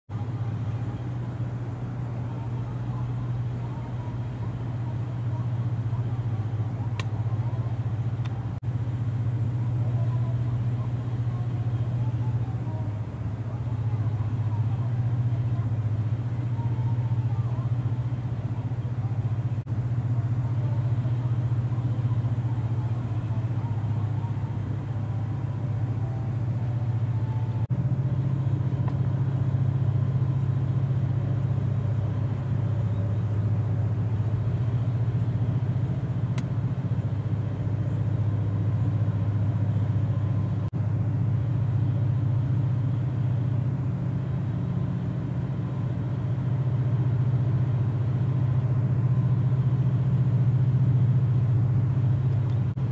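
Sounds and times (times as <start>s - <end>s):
ship diesel engine rumble: 0.1s - 52.9s.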